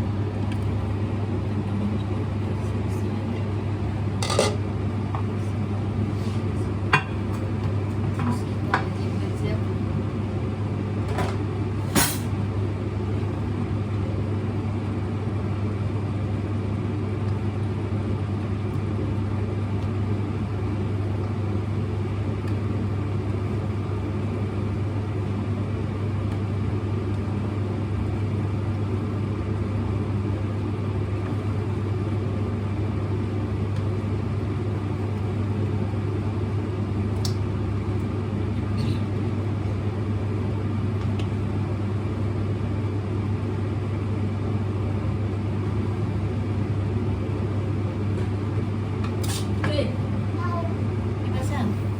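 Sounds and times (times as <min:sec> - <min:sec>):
kitchen appliance humming: 0:00.0 - 0:51.9.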